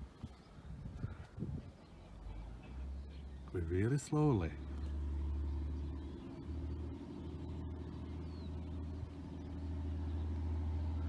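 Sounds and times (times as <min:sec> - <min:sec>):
diesel train passing slowly: 0:01.7 - 0:11.0.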